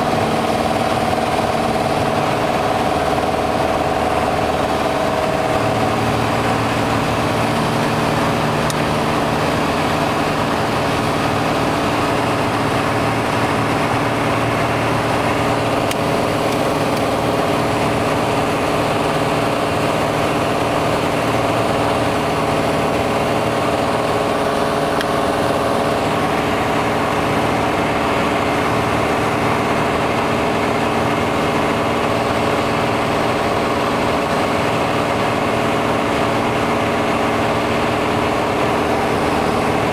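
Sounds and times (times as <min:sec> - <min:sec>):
aircraft engine droning in cabin: 0:00.0 - 0:39.9.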